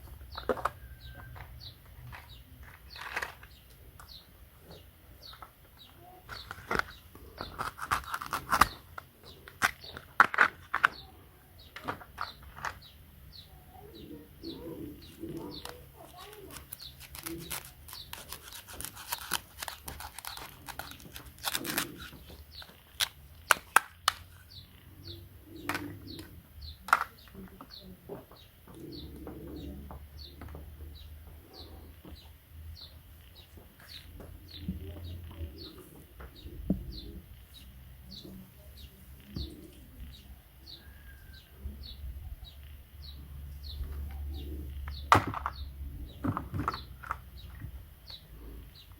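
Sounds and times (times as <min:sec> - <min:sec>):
faint low hum: 0:00.0 - 0:48.9
small bird chirping: 0:00.0 - 0:48.9.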